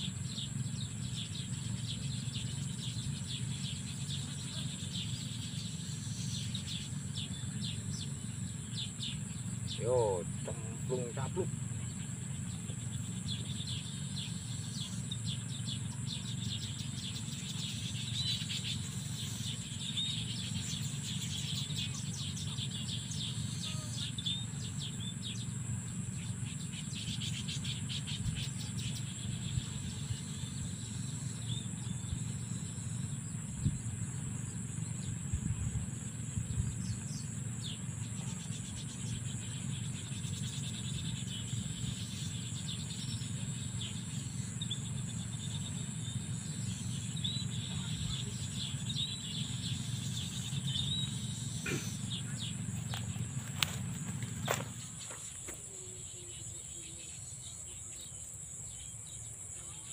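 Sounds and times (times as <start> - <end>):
low background rumble: 0.0 - 55.4
high-pitched insect chorus: 0.0 - 59.9
rapid chirping: 0.0 - 59.9.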